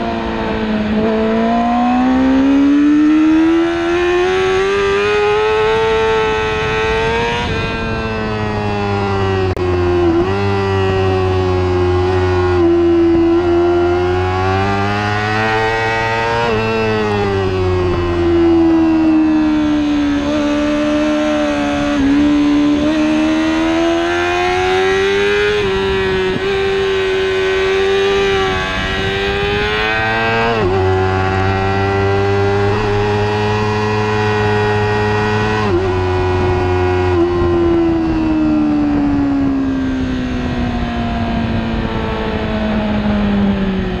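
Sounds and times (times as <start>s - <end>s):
motorcycle engine at high revs: 0.0s - 44.0s.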